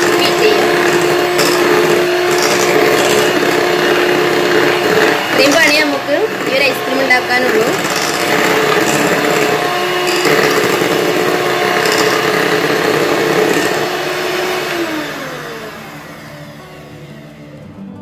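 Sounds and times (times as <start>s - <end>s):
electric hand mixer running: 0.0s - 17.9s.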